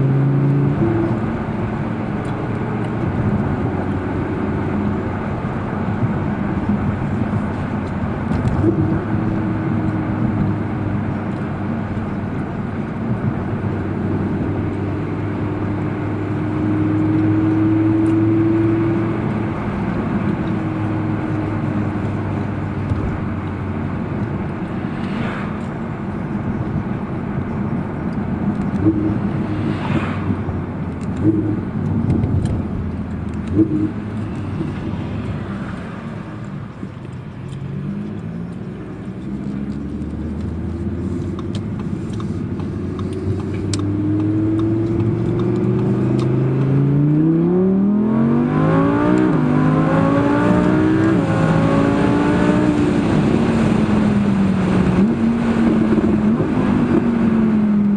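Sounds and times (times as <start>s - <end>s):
car engine accelerating: 0.0s - 57.9s
road noise: 0.0s - 57.9s.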